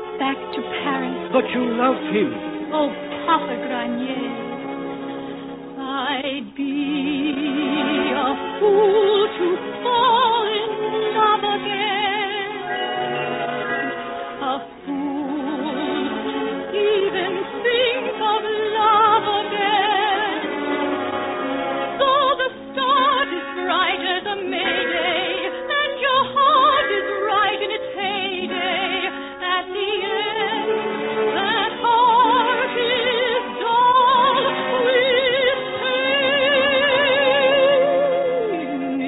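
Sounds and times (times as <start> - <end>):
orchestra: 0.0 - 39.0
woman singing operatically: 2.7 - 4.6, 5.8 - 12.8, 14.3 - 20.5, 22.0 - 30.7, 31.4 - 39.0.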